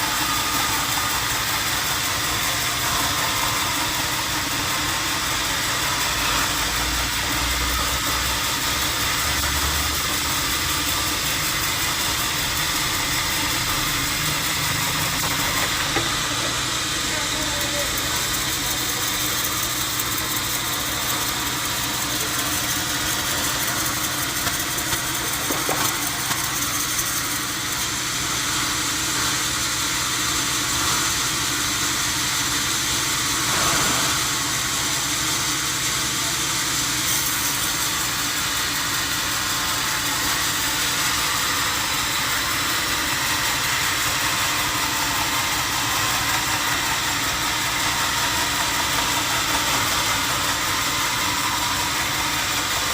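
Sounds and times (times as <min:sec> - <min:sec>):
sawmill machinery drone: 0:00.0 - 0:52.9.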